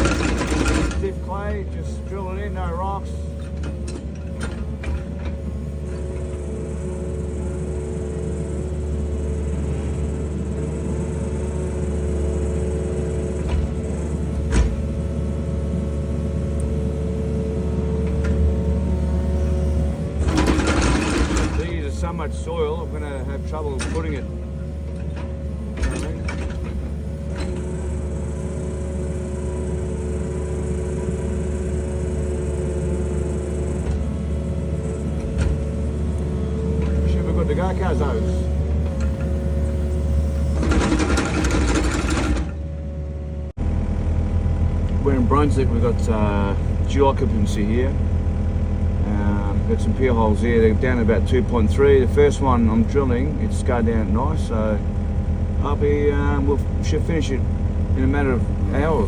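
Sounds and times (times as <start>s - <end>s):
excavator engine and hydraulics running: 0.0s - 59.0s.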